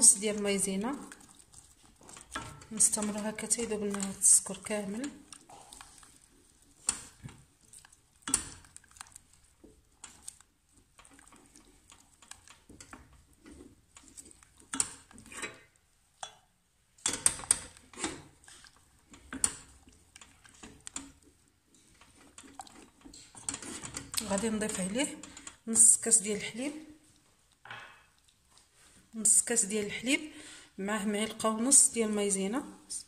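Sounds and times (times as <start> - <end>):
wooden spoon scraping saucepan: 0.0 - 27.2.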